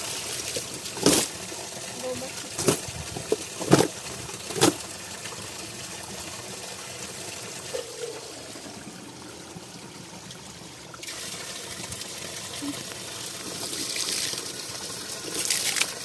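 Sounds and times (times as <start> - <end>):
water running and trickling: 0.0 - 16.0.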